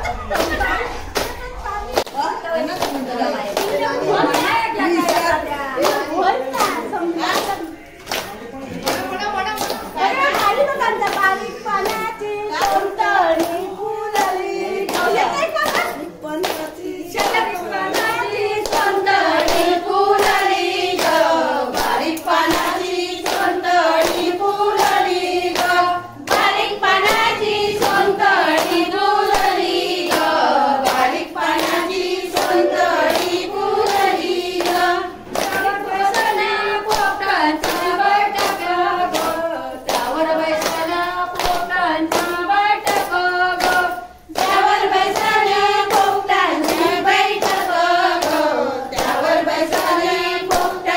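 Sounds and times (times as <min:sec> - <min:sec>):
rhythmic hand clapping: 0:00.0 - 0:50.9
women singing together: 0:00.0 - 0:50.9.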